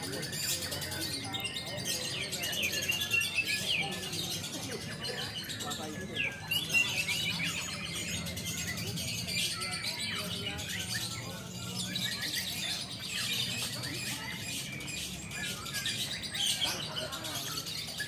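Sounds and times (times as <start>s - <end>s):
lovebird chattering song: 0.0s - 18.0s.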